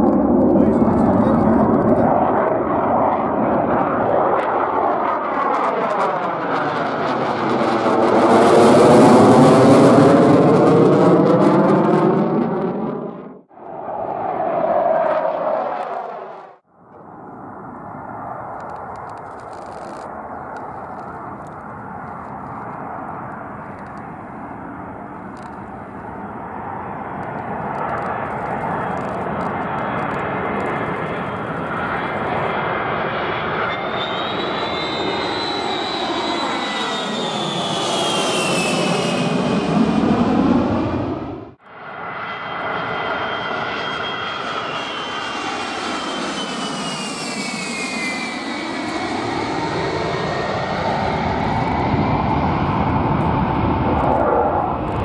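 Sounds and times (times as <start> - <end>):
jet engine whine passing by: 0.0 - 55.0.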